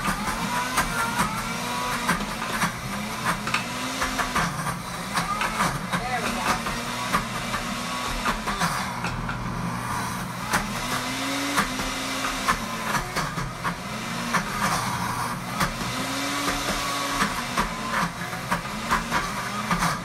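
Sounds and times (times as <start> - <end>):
blender motor grinding: 0.0 - 20.0.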